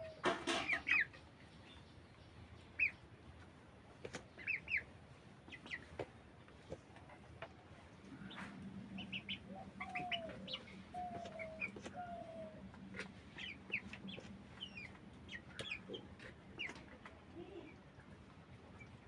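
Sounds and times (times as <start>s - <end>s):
chicks chirping: 0.0s - 3.5s, 4.1s - 6.7s, 8.0s - 17.8s
chickens clucking: 0.0s - 19.0s
low steady hum: 0.0s - 19.0s.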